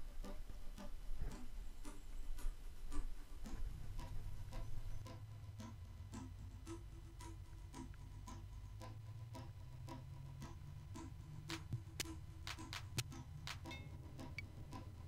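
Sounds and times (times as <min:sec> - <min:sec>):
background music with ticking beat: 0:00.0 - 0:15.0
low steady rumble: 0:00.0 - 0:15.0.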